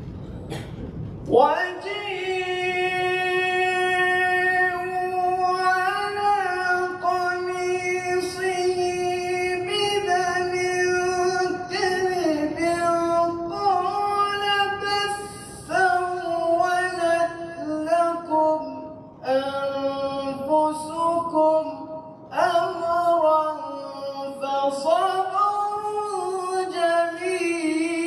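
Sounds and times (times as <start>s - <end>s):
man reciting melodically: 1.2s - 28.0s.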